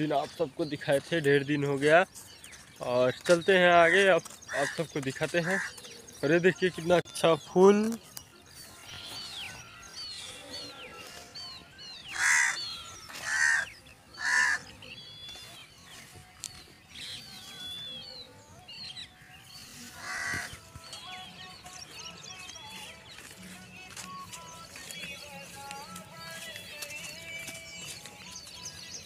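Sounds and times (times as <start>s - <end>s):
birds chirping: 0.0s - 29.0s
loud bird calls: 0.0s - 29.0s.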